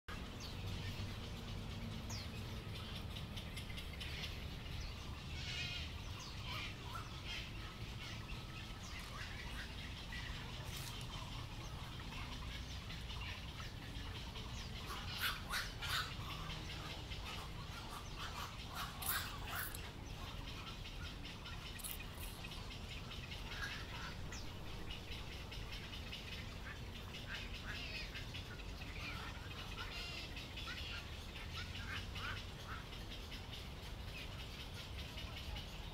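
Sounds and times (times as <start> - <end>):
birds calling and chirping: 0.1 - 35.9
low background rumble: 0.1 - 35.9.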